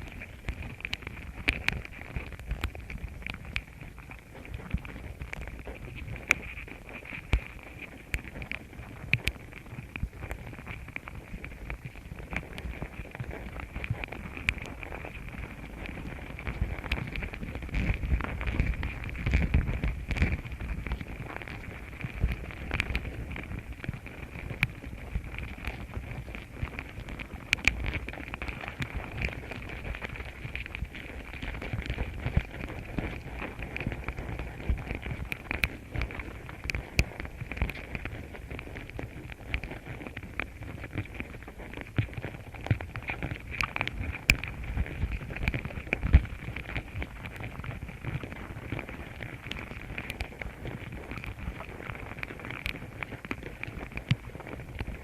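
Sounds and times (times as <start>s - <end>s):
small clicks and crackles: 0.0s - 55.0s.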